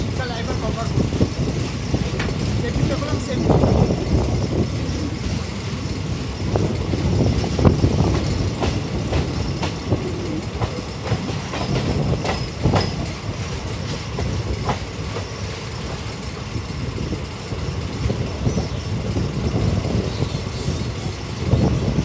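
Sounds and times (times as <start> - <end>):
train wheels clacking on rail joints: 0.0 - 22.0.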